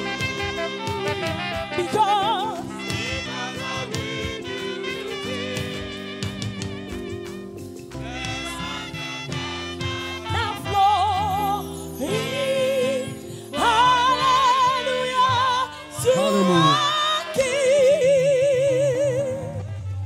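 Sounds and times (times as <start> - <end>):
choir singing gospel: 0.0 - 7.3, 7.9 - 19.7
instrumental accompaniment: 0.0 - 20.0.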